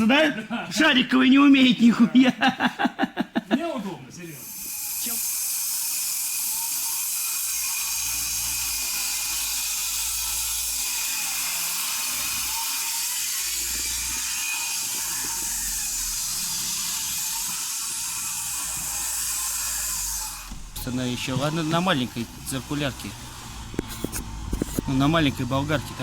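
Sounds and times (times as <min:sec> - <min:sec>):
angle grinder cutting wood: 0:04.2 - 0:26.0.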